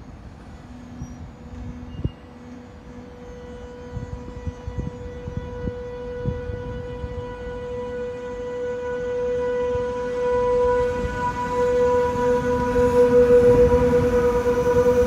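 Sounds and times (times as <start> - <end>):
electric train whine: 0.0 - 15.0
train rumble: 0.0 - 15.0.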